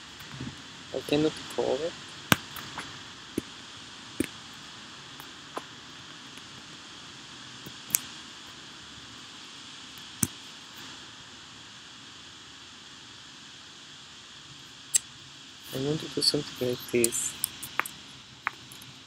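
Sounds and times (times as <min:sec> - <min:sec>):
room and microphone hiss: 0:00.0 - 0:19.0.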